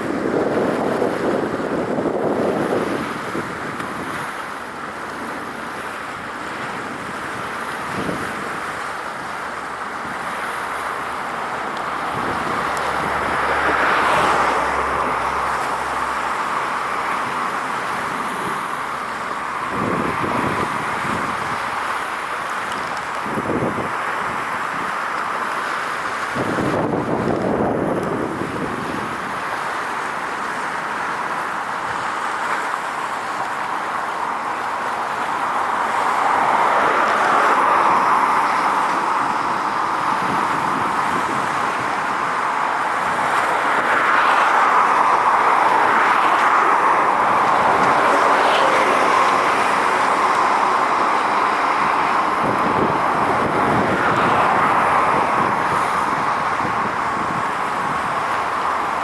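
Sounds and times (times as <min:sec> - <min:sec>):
road traffic roar: 0:00.0 - 0:59.0.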